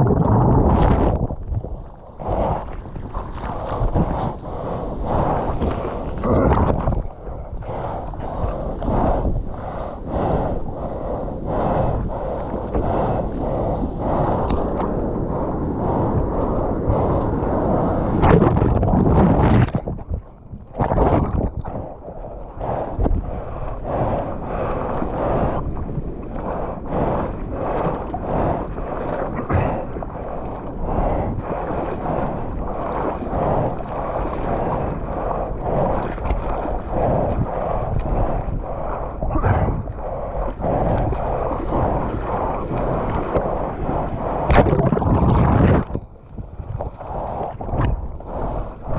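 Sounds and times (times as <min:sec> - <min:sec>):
ocean surf and rushing water: 0:00.0 - 0:48.9
wind buffeting microphone: 0:00.0 - 0:48.9.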